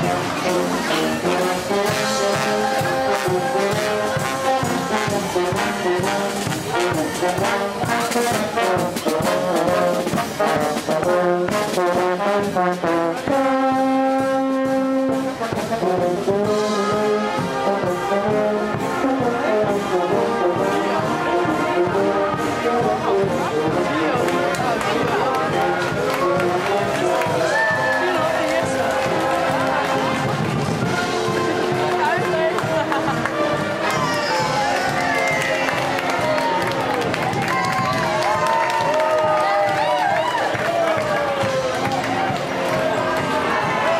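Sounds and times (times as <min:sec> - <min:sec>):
marching brass band playing: 0:00.0 - 0:43.9
snare drums: 0:00.0 - 0:43.9.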